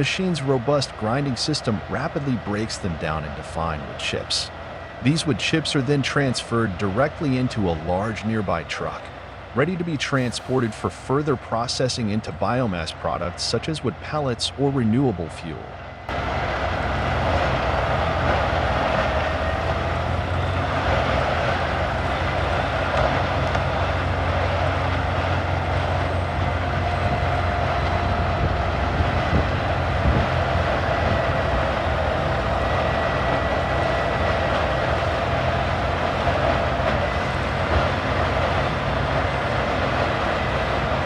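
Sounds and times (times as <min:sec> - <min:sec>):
heavy diesel engine drone: 0:00.0 - 0:41.0.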